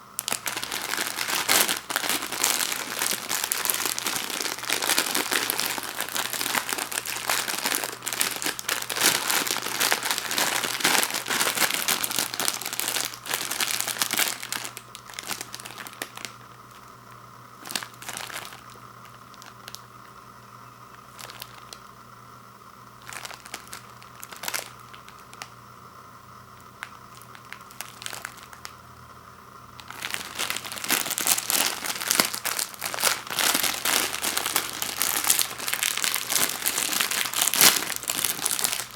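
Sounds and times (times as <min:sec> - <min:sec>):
plastic wrapper crinkling: 0:00.0 - 0:20.2, 0:20.9 - 0:21.9, 0:22.9 - 0:25.6, 0:26.5 - 0:28.8, 0:29.8 - 0:38.9.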